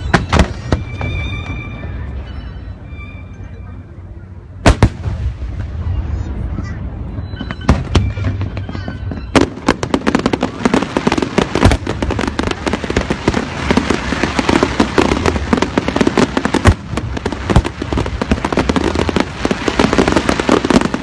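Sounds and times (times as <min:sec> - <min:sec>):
fireworks booms: 0:00.0 - 0:01.3, 0:04.6 - 0:06.6, 0:07.2 - 0:21.0
fireworks bangs and crackles: 0:00.0 - 0:02.2, 0:04.6 - 0:21.0.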